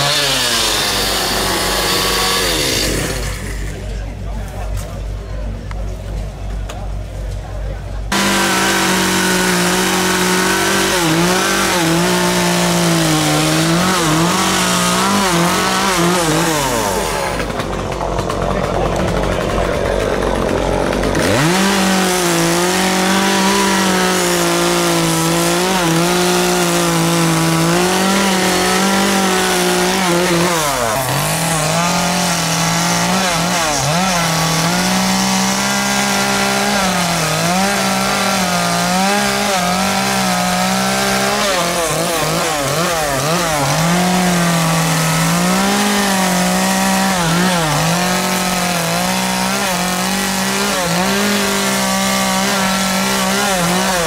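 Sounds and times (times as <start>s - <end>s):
chainsaw cutting wood: 0.0s - 3.9s, 8.1s - 54.0s.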